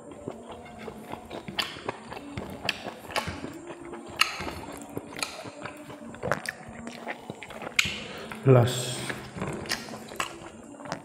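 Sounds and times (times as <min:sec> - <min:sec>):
wet chewing and lip smacks: 0:00.0 - 0:11.0.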